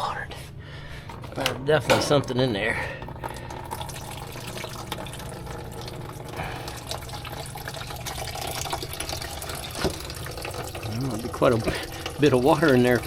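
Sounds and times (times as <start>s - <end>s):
water draining into a container: 1.1s - 13.0s.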